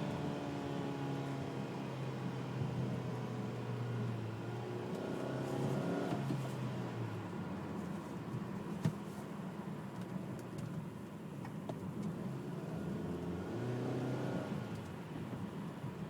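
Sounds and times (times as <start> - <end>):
car engine droning while driving: 0.0 - 16.0.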